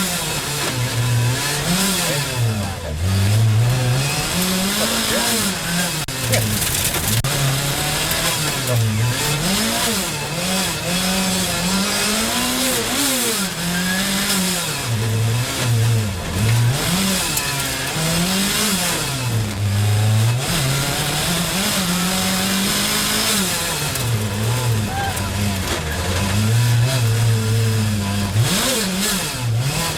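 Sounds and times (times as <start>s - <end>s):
rally car engine revving: 0.0s - 29.9s.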